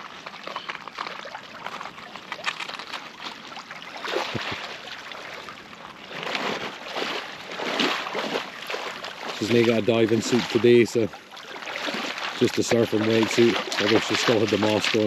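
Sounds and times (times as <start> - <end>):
person wading through water: 0.0 - 15.0.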